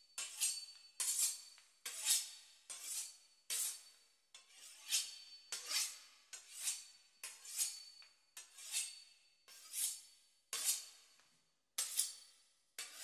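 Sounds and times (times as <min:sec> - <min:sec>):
knife on sharpening steel: 0:00.2 - 0:11.0, 0:11.8 - 0:12.2, 0:12.8 - 0:13.0.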